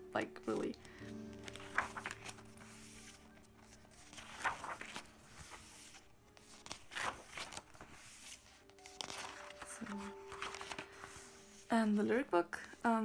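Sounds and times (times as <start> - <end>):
faint background music: 0.0 - 13.0
pages turning with paper swish: 0.4 - 11.7.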